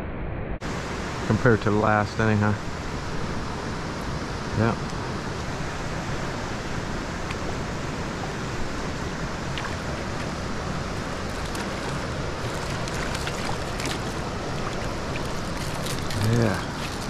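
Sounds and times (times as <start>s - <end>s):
creek water rushing: 0.7s - 17.0s.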